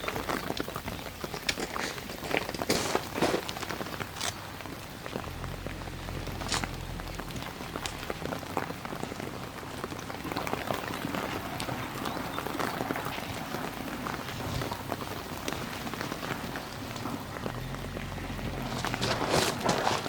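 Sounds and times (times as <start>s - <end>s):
raindrops ticking on a surface: 0.0s - 20.0s.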